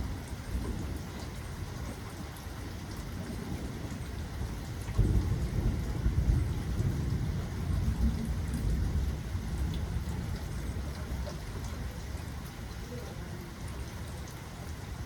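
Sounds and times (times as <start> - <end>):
low rumble of thunder: 0.0 - 13.9
steady rain falling: 0.0 - 15.0.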